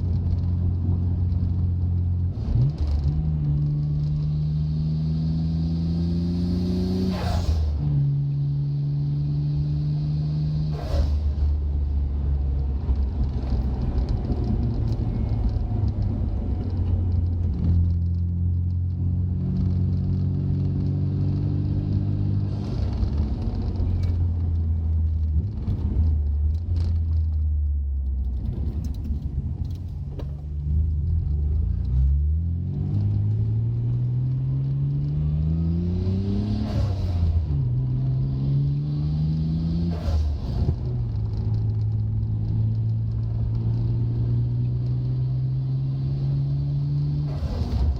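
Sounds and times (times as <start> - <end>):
car engine driving: 0.0 - 47.9.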